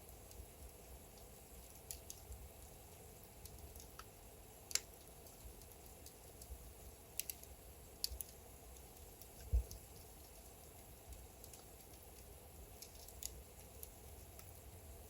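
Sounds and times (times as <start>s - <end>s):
faint low hiss: 0.0s - 15.0s
wood fire popping: 0.0s - 15.0s.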